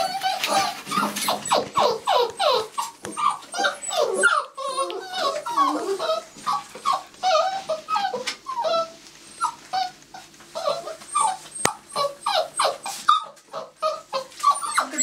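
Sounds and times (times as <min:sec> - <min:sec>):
puppies whining and yipping: 0:00.0 - 0:15.0.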